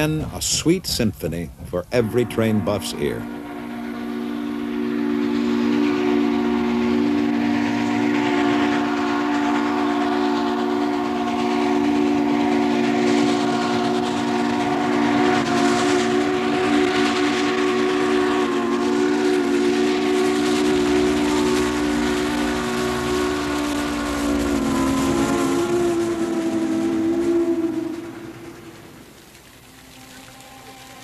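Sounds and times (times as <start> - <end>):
steam rushing: 0.0 - 31.0
train running noise: 0.0 - 31.0
steam locomotive chime whistle: 1.9 - 31.0.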